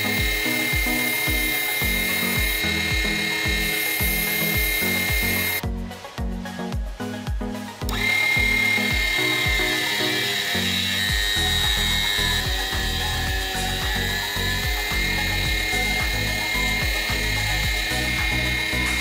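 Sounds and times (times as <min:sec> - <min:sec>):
bit cutting into plywood: 0:00.0 - 0:05.6, 0:07.9 - 0:19.0
table saw motor whining: 0:00.0 - 0:05.6, 0:07.9 - 0:19.0
background music with steady beat: 0:00.0 - 0:19.0.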